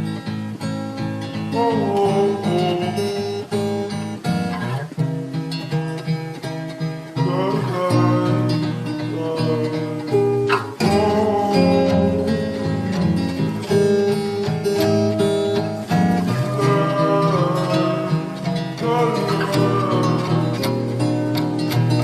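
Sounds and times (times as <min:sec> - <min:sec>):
plucked acoustic guitar: 0:00.0 - 0:22.0
slowed-down lo-fi hip-hop song: 0:01.4 - 0:05.7, 0:06.5 - 0:22.0.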